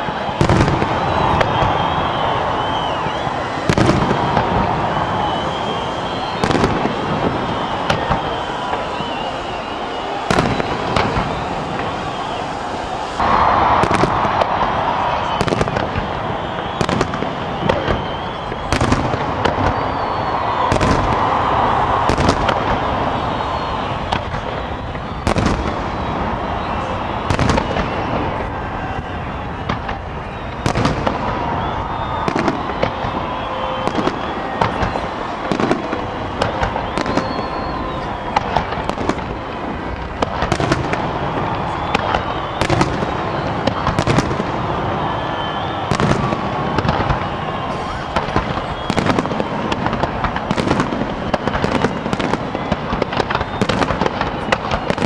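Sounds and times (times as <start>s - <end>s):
continuous din: 0.0s - 55.0s
fireworks bursting with sharp bangs: 0.0s - 55.0s.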